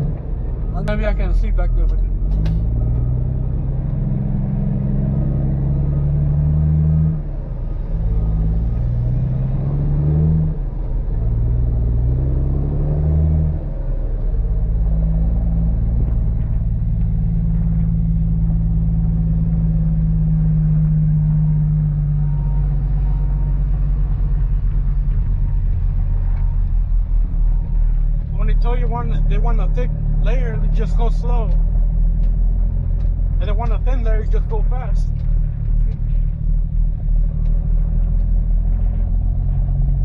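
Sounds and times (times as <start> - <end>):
diesel truck engine pulling: 0.0 - 40.0.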